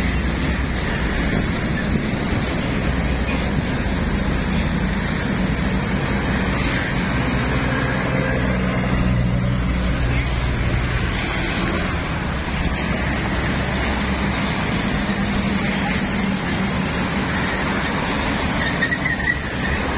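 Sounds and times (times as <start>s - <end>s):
heavy trucks passing: 0.0s - 19.9s.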